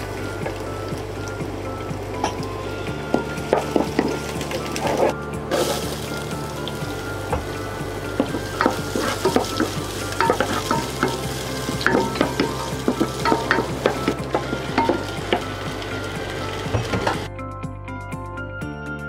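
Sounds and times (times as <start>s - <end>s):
oil sizzling in pan: 0.0s - 17.3s.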